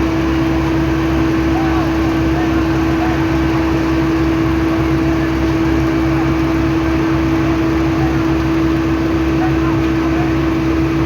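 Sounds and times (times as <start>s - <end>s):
road-paving machinery droning: 0.0s - 11.0s.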